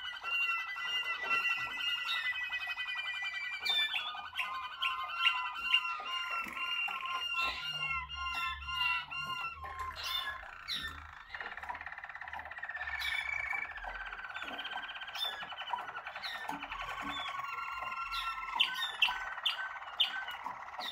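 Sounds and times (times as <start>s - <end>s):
canary singing trills: 0.0s - 20.9s.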